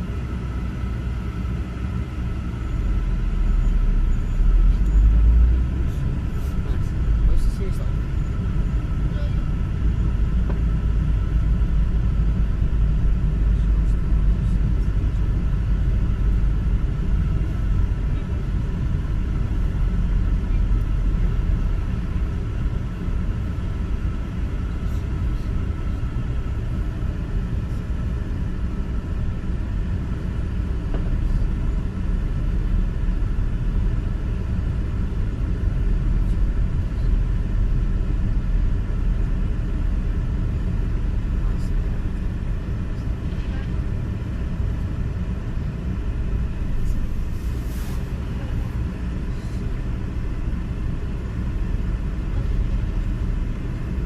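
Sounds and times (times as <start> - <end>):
faint constant hum: 0.0 - 54.0
low road rumble: 0.0 - 54.0.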